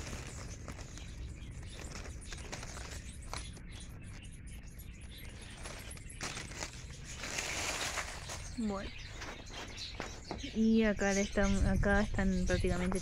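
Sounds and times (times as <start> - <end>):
dry leaves and soil rustling: 0.0 - 11.2.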